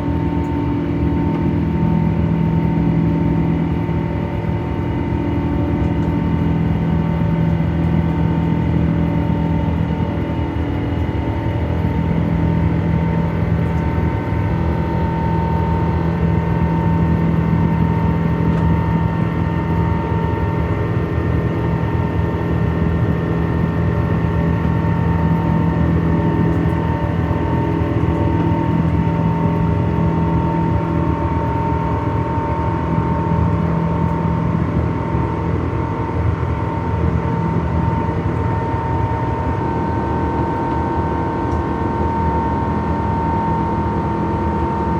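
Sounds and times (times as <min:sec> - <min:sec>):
jet engine cabin drone: 0:00.0 - 0:44.9.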